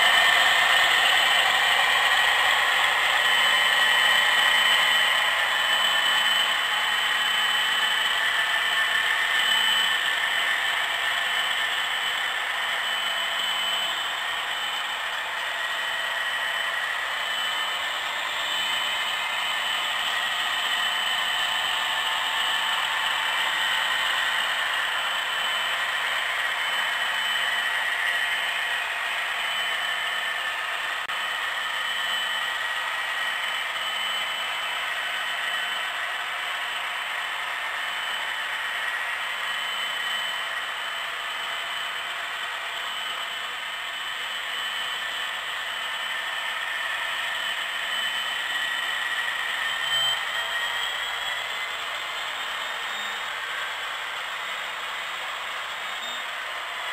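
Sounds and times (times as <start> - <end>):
faint high whine: 0.0 - 56.9
model train motors whirring: 0.0 - 56.9.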